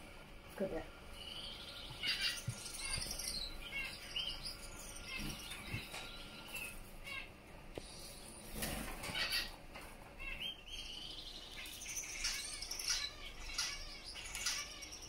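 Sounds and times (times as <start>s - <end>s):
finches chirping: 0.6s - 15.0s.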